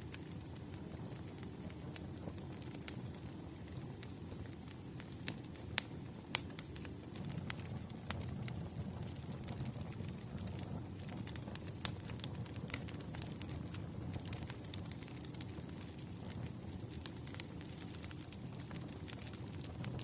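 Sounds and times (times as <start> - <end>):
low rumble of burning logs: 0.0 - 20.0
wood fire crackling: 0.0 - 20.0.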